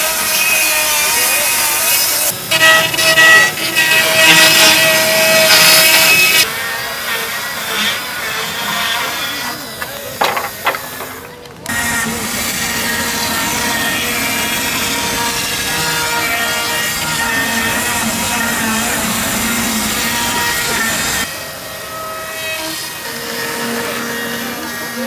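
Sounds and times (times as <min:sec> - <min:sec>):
chainsaw cutting: 0:00.0 - 0:21.6.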